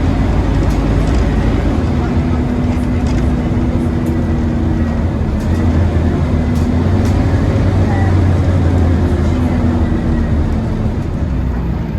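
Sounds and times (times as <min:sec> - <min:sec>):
bus engine droning: 0:00.0 - 0:11.9.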